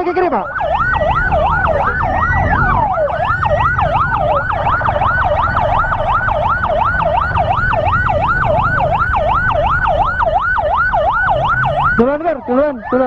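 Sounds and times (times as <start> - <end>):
faint wailing siren: 0.0 - 13.0
low rumble of engine and wind: 0.0 - 13.0
siren in fast yelp: 0.0 - 13.0.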